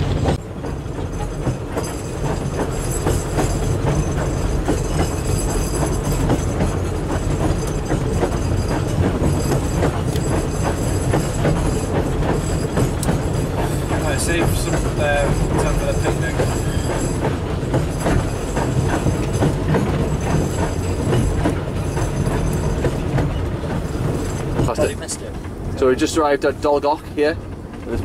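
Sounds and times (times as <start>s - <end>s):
wheels rumbling: 0.0s - 28.0s
high wheel squeal: 1.0s - 26.9s.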